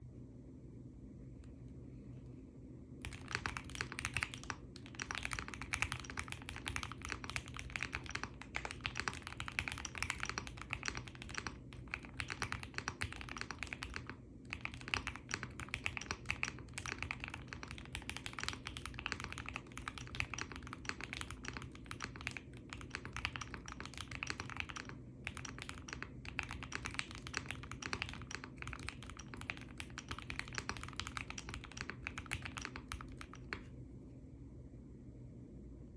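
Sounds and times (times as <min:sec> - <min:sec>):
fast mechanical keyboard typing: 0:03.0 - 0:33.7.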